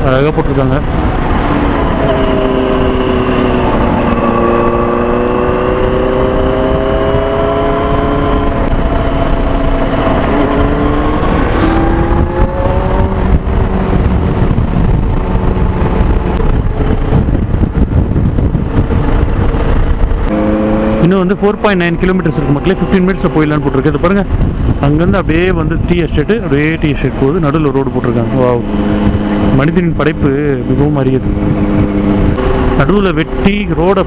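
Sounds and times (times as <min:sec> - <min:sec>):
motorcycle engine running: 0:00.0 - 0:34.0
wind on microphone: 0:00.0 - 0:34.0.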